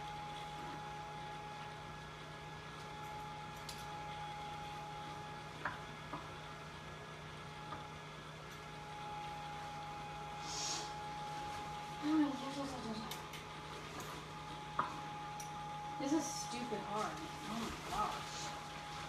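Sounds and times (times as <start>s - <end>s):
blower fan humming: 0.0s - 19.0s.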